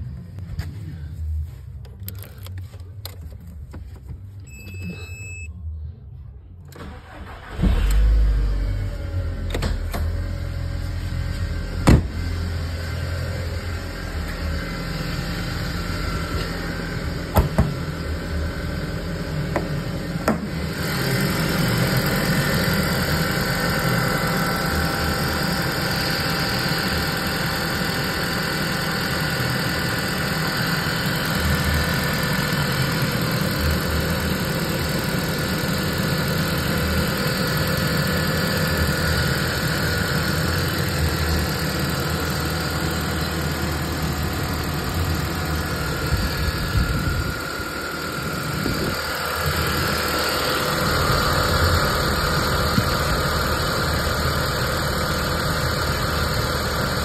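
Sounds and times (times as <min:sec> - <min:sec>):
car engine cranking and idling: 0:00.0 - 0:05.4, 0:06.4 - 0:57.0.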